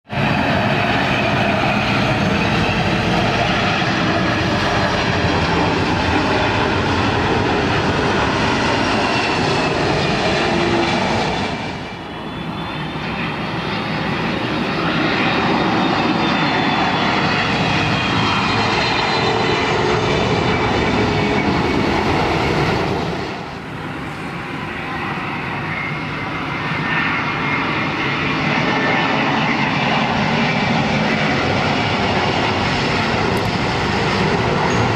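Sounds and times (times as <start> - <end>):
jet engines roaring and whining: 0.0 - 34.9.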